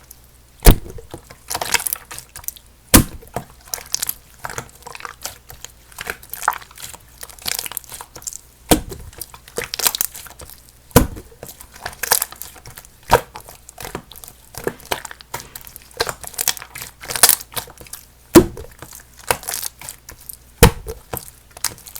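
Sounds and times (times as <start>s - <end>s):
slime crackling and popping: 0.6s - 21.9s.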